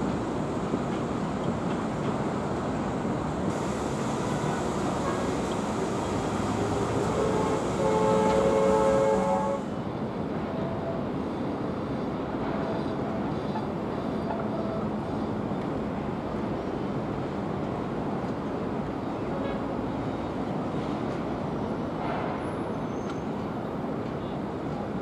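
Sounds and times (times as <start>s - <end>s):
distant rail and road traffic: 0.0s - 25.0s.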